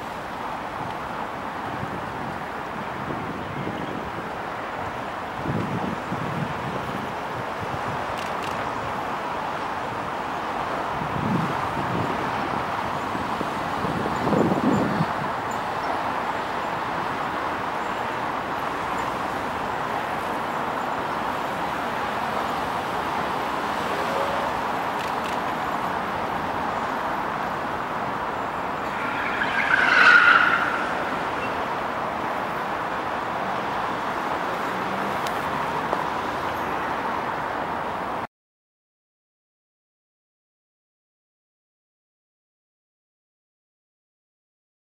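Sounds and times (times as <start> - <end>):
road traffic hum: 0.0 - 38.3.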